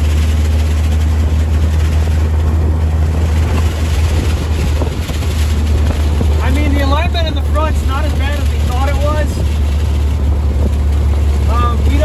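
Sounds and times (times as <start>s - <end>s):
car engine running: 0.0s - 12.0s
wind and road noise: 0.0s - 12.0s.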